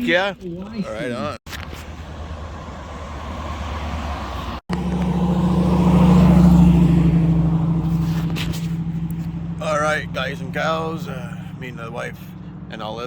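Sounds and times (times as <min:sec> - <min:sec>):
car engine running: 0:00.1 - 0:13.0.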